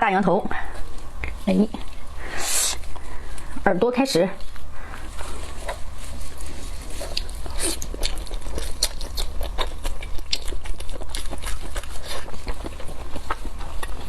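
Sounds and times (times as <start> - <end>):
low steady hum: 0.0 - 14.0
wet chewing and crunching: 0.4 - 14.0.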